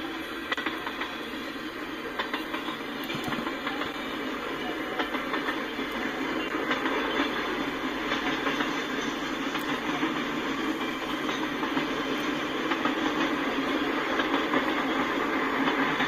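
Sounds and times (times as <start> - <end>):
freight train wheels rumbling: 0.0 - 16.0
wheels clacking on rail: 0.0 - 16.0.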